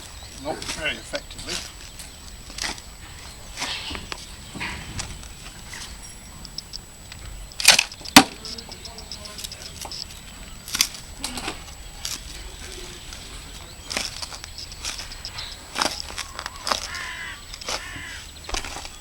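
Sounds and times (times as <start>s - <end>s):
harsh bird call: 0.0s - 19.0s.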